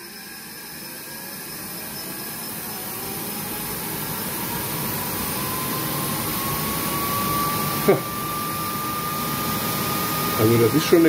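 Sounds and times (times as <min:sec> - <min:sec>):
jet engine exhaust rush: 0:00.0 - 0:11.0
turbine whine rising in pitch: 0:00.0 - 0:11.0.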